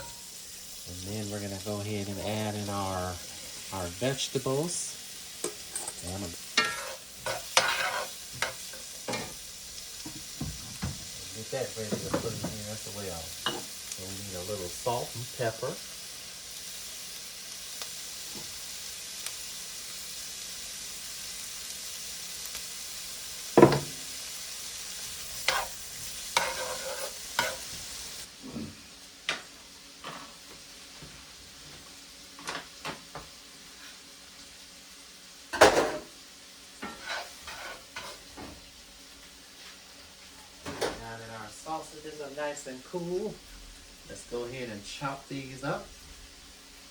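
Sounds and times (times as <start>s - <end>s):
vegetables sizzling in a frying pan: 0.0s - 46.9s.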